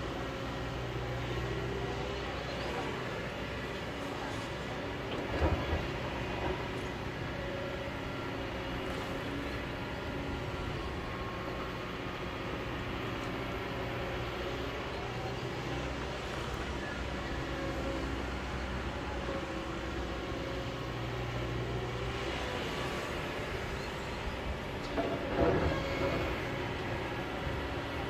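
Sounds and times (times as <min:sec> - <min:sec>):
excavator diesel engine: 0:00.0 - 0:28.0.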